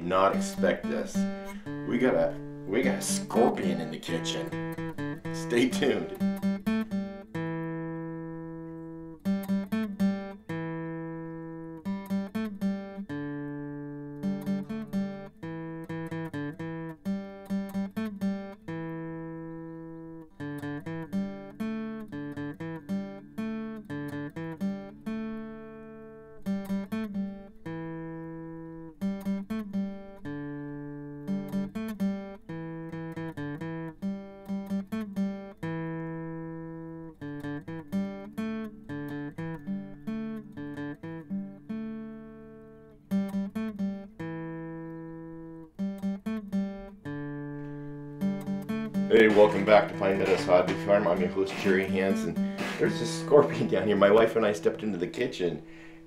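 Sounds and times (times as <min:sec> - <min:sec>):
acoustic guitar picking: 0:00.0 - 0:56.0.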